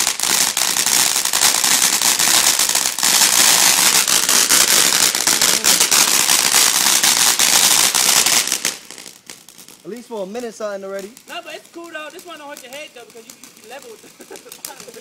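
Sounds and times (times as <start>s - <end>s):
crackling fountain firework: 0.0s - 15.0s.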